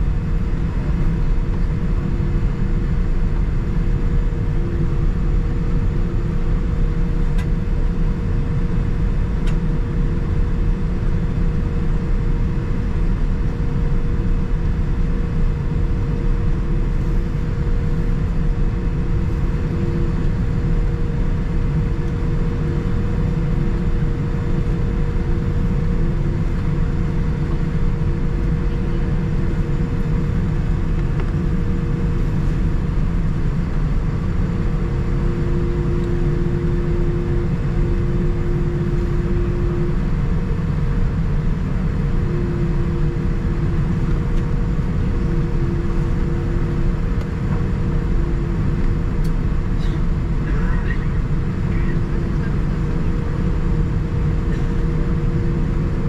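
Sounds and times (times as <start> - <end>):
aircraft cabin engine rumble: 0.0 - 56.0
faint steady hums: 0.0 - 56.0.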